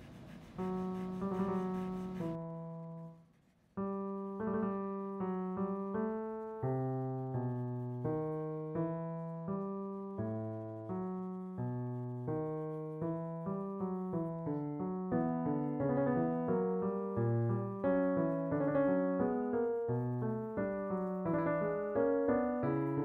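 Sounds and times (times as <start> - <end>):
solo piano music: 0.0 - 23.0.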